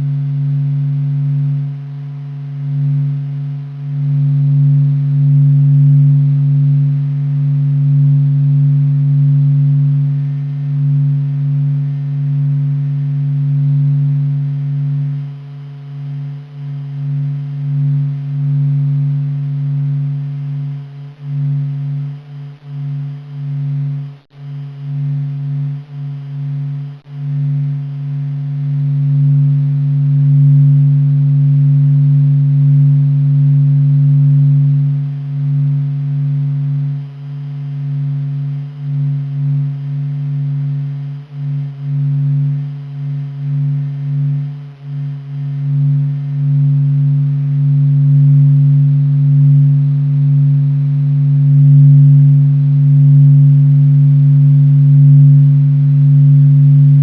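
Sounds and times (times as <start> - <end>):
deep humming drone: 0.0 - 57.0.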